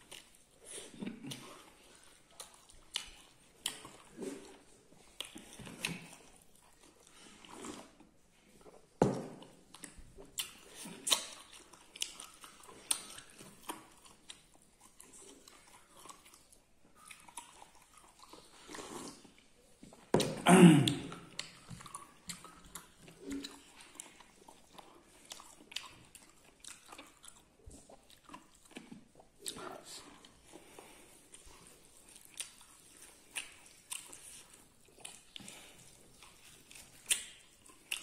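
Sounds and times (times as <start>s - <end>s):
person chewing with mouth clicks: 0.0s - 38.0s.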